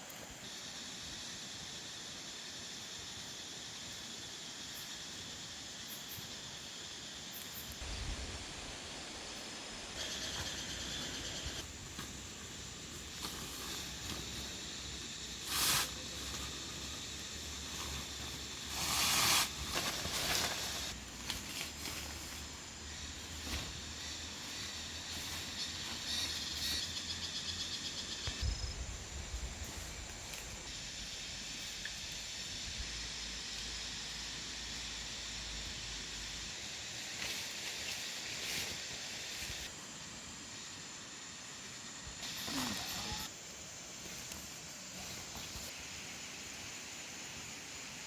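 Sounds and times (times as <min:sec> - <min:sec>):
insects trilling: 0:00.0 - 0:48.0
steady high hiss: 0:00.0 - 0:48.0.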